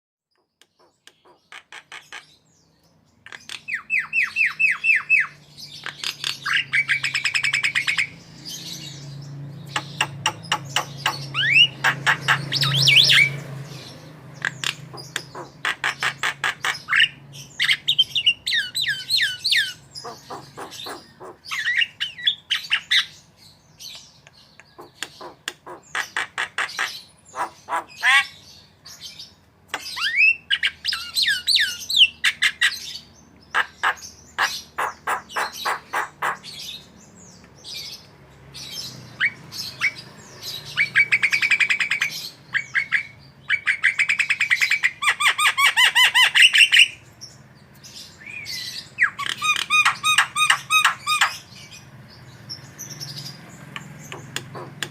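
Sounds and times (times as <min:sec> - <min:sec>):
bird singing chattering song: 0:00.3 - 0:54.9.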